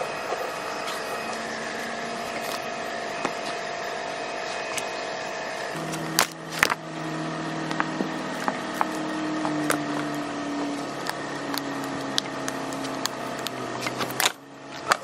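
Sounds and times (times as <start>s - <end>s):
sustained tones changing pitch: 0.0s - 14.8s.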